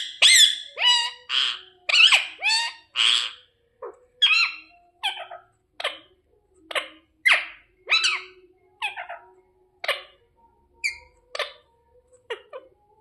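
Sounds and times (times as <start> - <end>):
parrot squawking: 0.0 - 10.2, 10.8 - 12.8.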